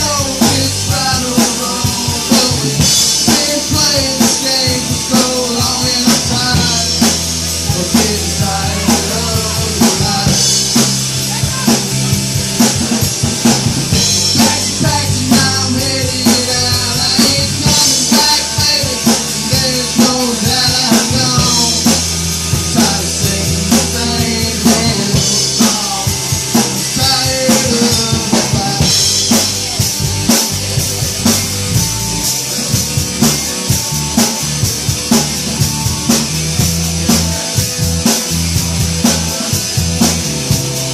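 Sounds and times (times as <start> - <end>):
bass: 0.0 - 40.9
drum kit steady beat: 0.0 - 40.9
melodic lead line: 0.0 - 40.9.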